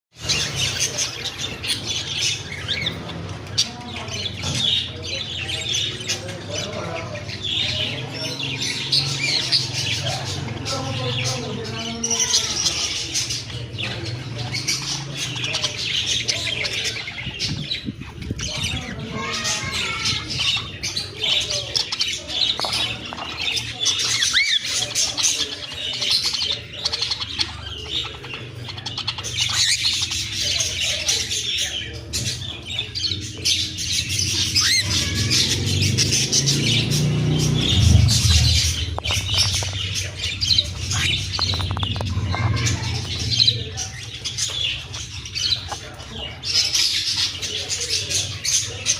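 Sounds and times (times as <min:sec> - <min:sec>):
parrots chirping and chattering: 0:00.1 - 0:48.9.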